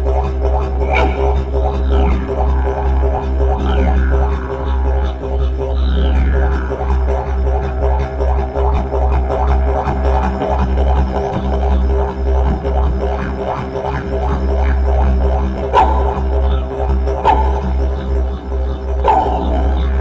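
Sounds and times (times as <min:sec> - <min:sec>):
didgeridoo drone: 0:00.0 - 0:20.0.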